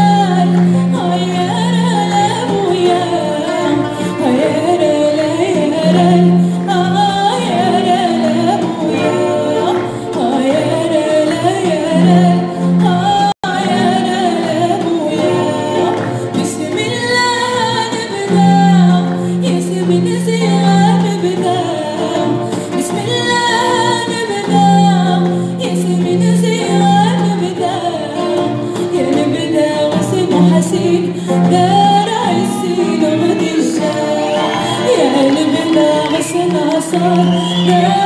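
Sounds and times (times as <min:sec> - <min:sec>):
acoustic guitar: 0:00.0 - 0:38.0
small band playing: 0:00.0 - 0:38.0
woman singing: 0:00.0 - 0:38.0.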